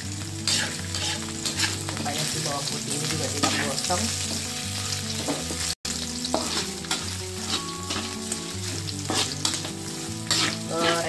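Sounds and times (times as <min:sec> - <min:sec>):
oil sizzling in a wok: 0:00.0 - 0:11.0
metal spatula scraping wok: 0:00.2 - 0:05.6, 0:06.2 - 0:11.0.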